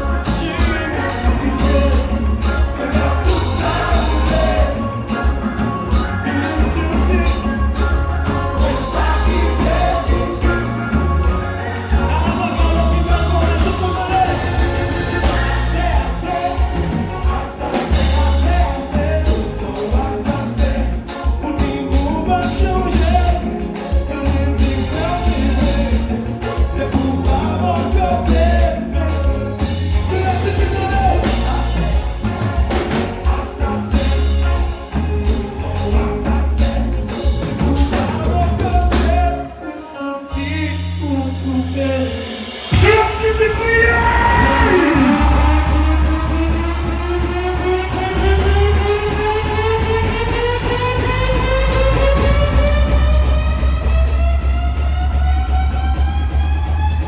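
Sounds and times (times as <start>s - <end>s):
heavy pulsing bass line: 0.0s - 39.3s, 40.7s - 57.0s
man singing into microphone: 0.0s - 46.4s
live band music: 0.0s - 57.0s.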